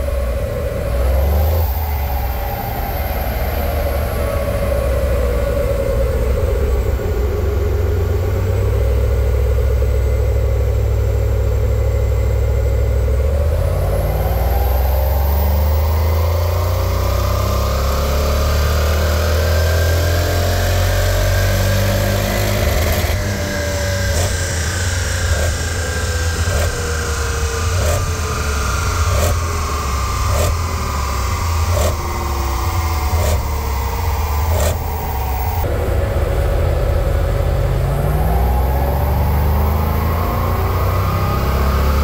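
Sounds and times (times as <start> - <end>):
car engine revving on dyno: 0.0 - 42.0.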